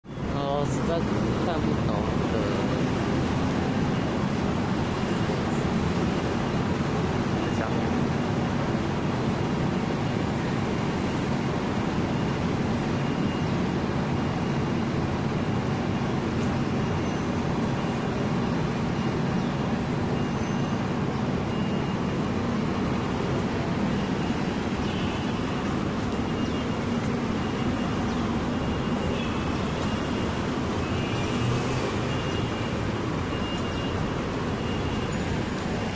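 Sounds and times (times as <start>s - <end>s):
road traffic rumble: 0.0s - 35.9s.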